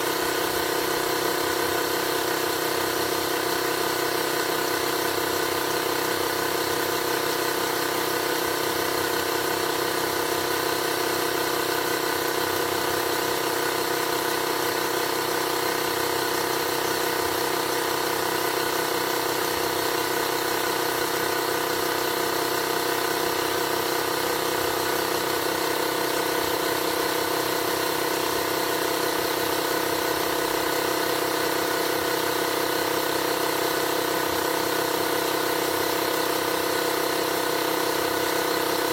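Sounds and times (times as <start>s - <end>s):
tire inflator compressor humming: 0.0s - 38.9s.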